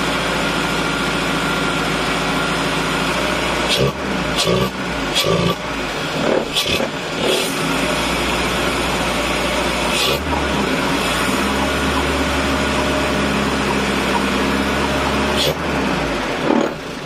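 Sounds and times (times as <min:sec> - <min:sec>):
petrol engine running: 0:00.0 - 0:17.0.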